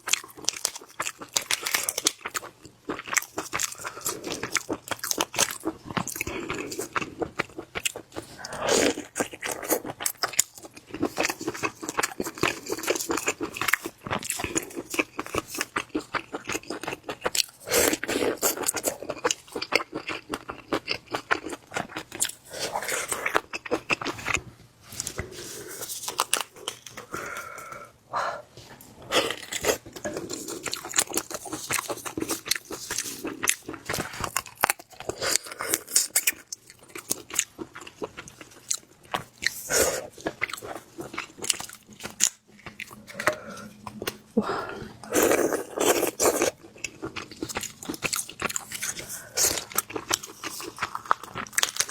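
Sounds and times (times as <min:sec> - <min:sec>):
person chewing and crunching: 0:00.0 - 0:27.9, 0:28.5 - 0:51.9.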